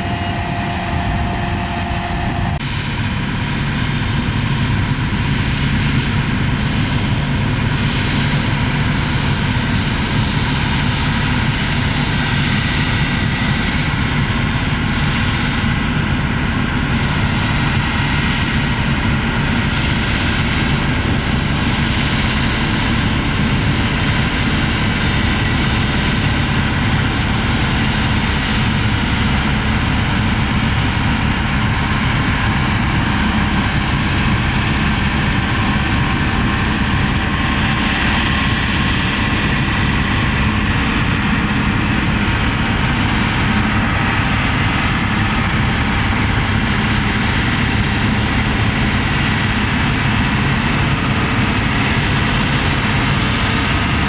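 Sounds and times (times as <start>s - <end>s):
combine harvester engine and threshing: 0.0s - 54.0s.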